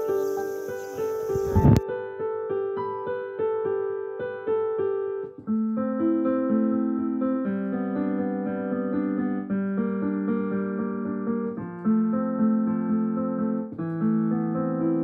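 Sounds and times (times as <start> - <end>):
keyboard music with held notes: 0.0 - 15.0.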